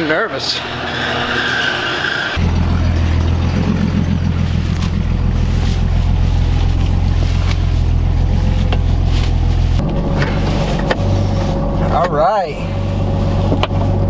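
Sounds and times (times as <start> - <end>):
car engine idling: 2.4 - 14.0.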